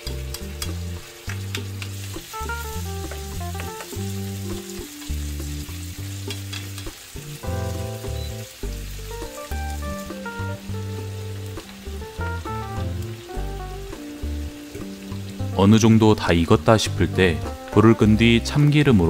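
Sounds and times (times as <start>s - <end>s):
food sizzling in a frying pan: 0.0s - 19.0s
light background music: 0.0s - 19.0s.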